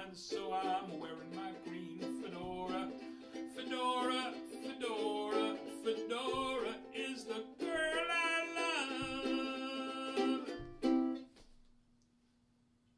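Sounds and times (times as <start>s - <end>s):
man singing: 0.0s - 10.6s
ukulele strumming: 0.0s - 11.4s.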